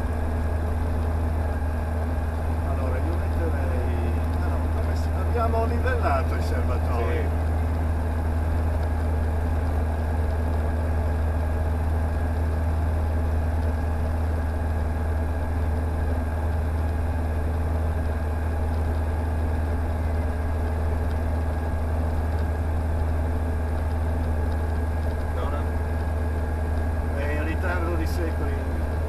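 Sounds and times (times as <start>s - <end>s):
aircraft engine idling: 0.0s - 29.0s.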